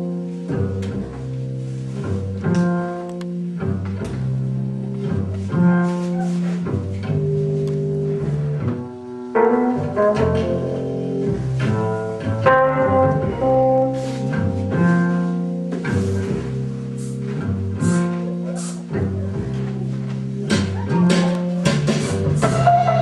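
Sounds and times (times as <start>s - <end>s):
instrumental music with low notes: 0.0s - 23.0s.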